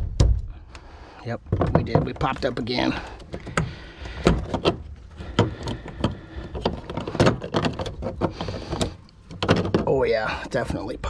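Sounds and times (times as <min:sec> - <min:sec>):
fuel pump parts clunking: 0:00.0 - 0:11.0.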